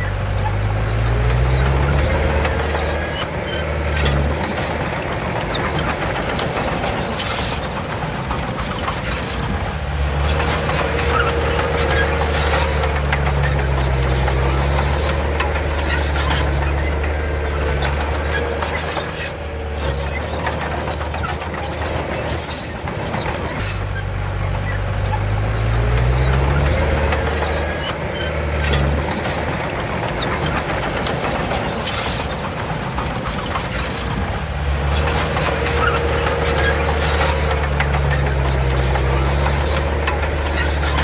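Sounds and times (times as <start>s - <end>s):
bulldozer diesel engine working: 0.0s - 41.0s
high squeaking: 0.0s - 41.0s.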